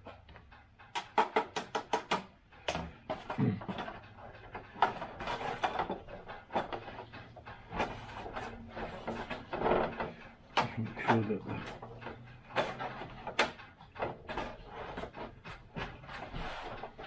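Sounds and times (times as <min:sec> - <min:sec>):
plastic parts clicking and rattling: 0:00.0 - 0:17.0
plastic parts scraping and rustling: 0:02.5 - 0:17.0.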